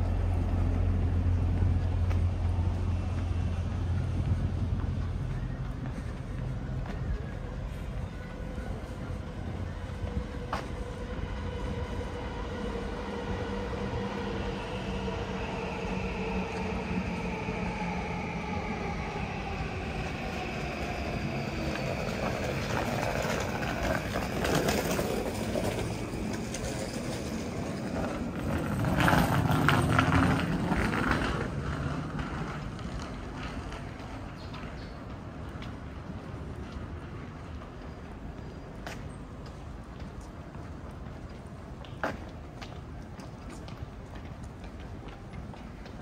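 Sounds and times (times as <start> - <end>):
rumble of rolling wheels: 0.0 - 46.0.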